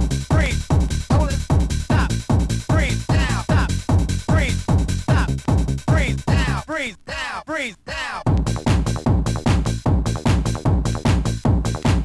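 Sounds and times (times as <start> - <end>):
hard kick drum: 0.0 - 6.6, 8.3 - 12.0.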